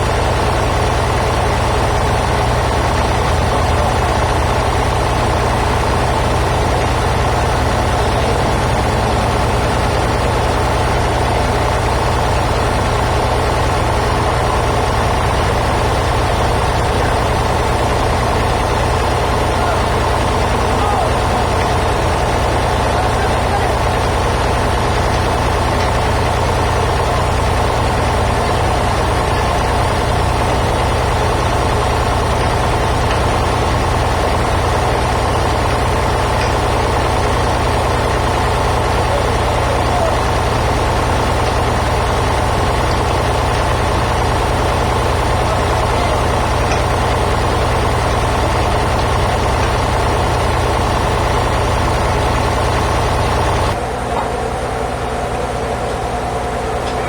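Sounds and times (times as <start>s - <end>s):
band saw machinery hum and whine: 0.0s - 57.0s.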